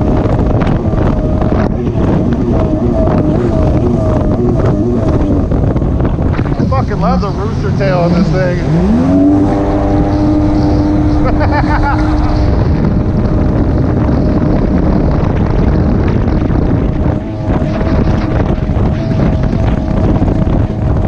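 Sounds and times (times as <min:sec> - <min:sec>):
jet ski engine running: 0:00.0 - 0:21.0
rush of wind and water spray: 0:00.0 - 0:21.0.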